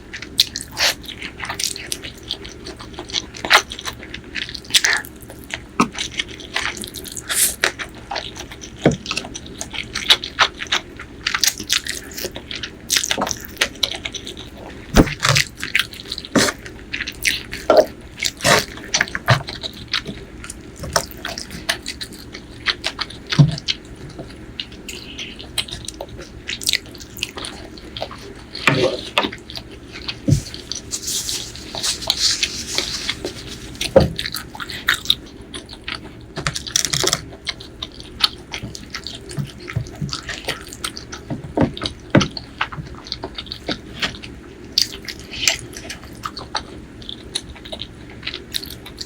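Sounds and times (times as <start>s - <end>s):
person chewing: 0.1s - 49.0s.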